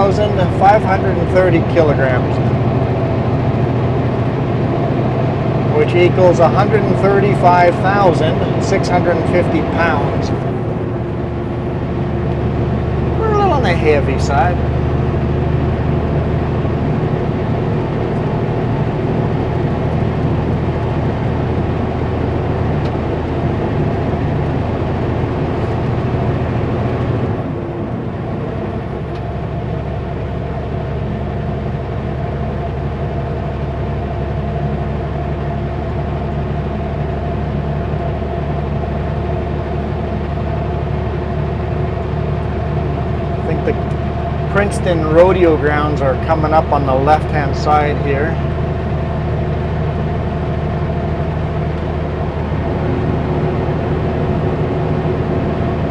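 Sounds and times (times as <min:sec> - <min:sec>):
truck diesel engine droning: 0:00.0 - 0:55.9.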